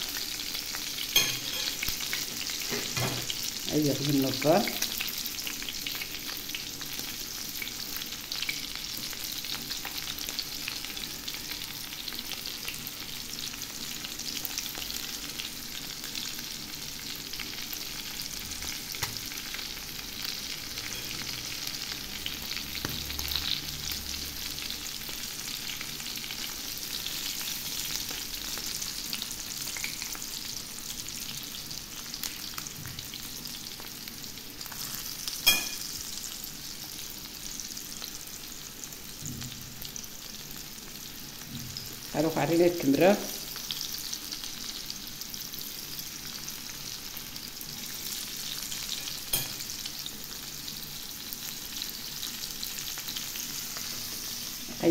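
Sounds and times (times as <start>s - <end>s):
fish sizzling in oil: 0.0s - 54.9s.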